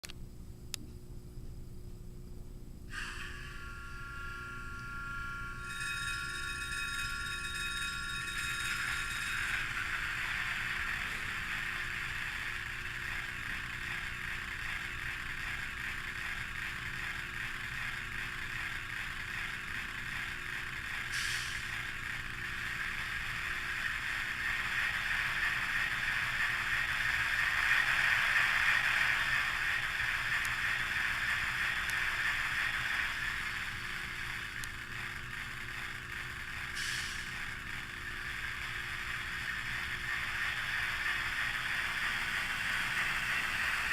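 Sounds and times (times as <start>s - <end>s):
diesel locomotive running: 2.0s - 43.9s.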